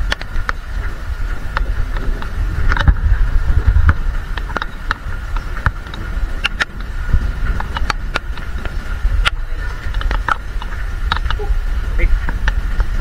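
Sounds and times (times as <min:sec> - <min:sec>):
microphone handling noise: 0:00.0 - 0:13.0
raindrops tapping on microphone: 0:00.0 - 0:13.0
wind rumble: 0:00.0 - 0:13.0.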